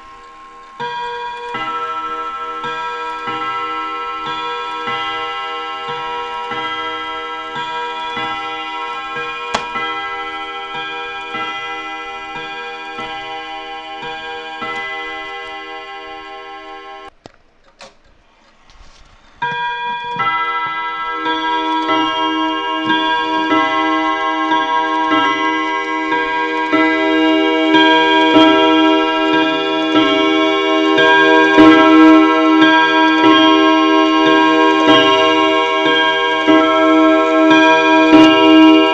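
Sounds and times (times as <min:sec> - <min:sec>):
clock chime ringing: 0:00.0 - 0:17.1, 0:18.2 - 0:38.9
clock ticking: 0:00.0 - 0:18.7, 0:19.4 - 0:38.9.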